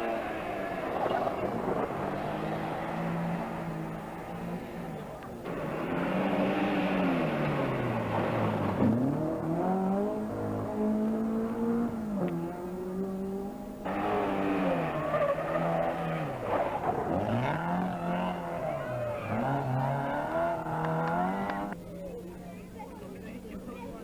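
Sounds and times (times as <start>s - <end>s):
rally car engine revving: 0.0s - 22.8s
hissing road noise: 0.0s - 24.0s.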